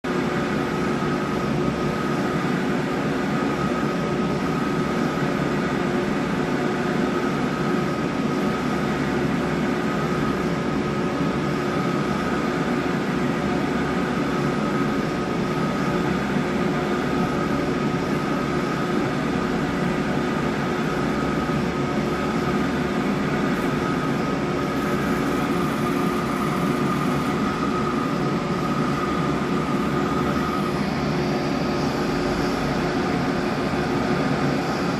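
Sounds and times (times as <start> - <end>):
high steady whine: 0.1 - 34.9
printer mechanical whir: 0.1 - 34.9.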